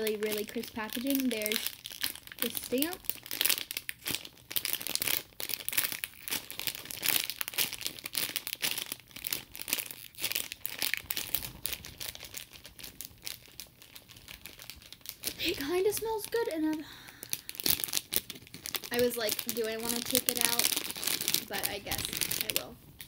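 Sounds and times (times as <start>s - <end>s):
plastic packaging crinkling: 0.0s - 23.0s.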